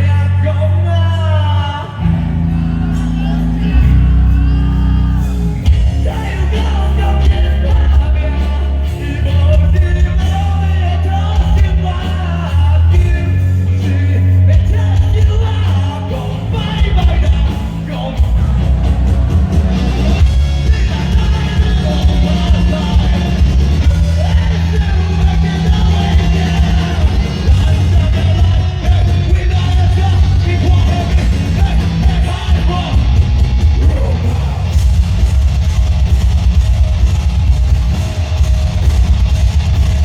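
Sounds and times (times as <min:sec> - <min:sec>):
person singing: 0:00.0 - 0:33.2
live rock band playing: 0:00.3 - 0:40.0.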